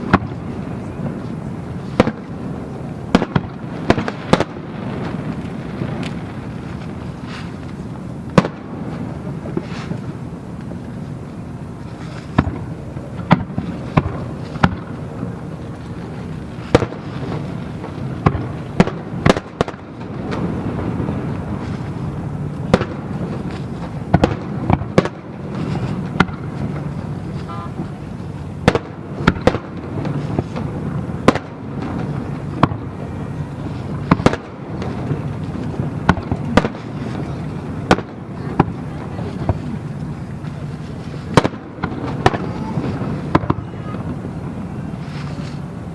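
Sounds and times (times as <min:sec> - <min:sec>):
fireworks bangs: 0:00.0 - 0:45.9
steady low rumble: 0:00.0 - 0:45.9.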